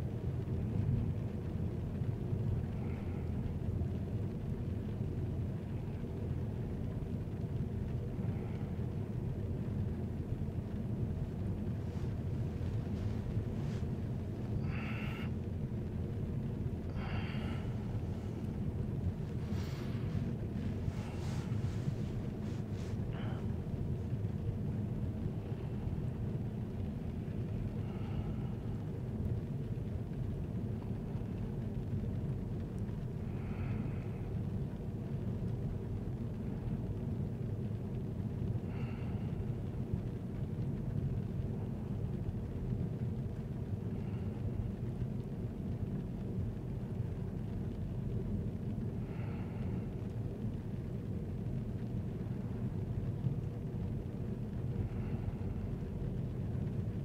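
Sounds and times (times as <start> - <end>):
vehicle road and engine rumble: 0.0 - 57.0.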